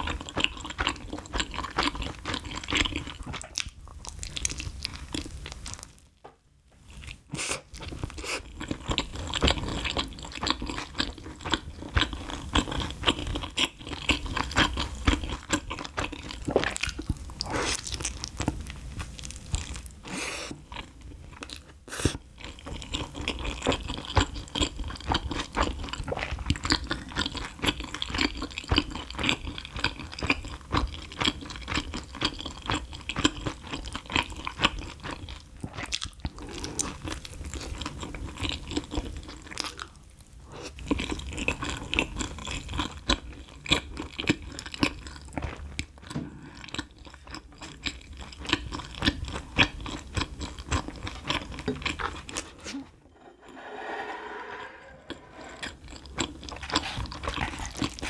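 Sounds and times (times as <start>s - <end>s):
person chewing crunchy crust: 0.0s - 6.1s, 6.9s - 40.0s, 40.6s - 52.8s, 55.3s - 58.0s.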